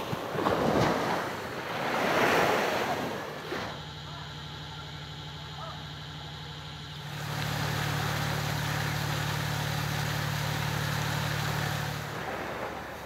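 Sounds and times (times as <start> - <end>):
engine idling: 2.5 - 13.0.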